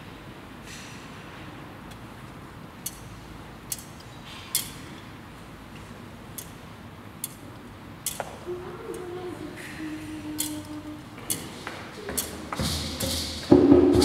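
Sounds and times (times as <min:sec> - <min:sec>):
steady low background noise: 0:00.0 - 0:14.0.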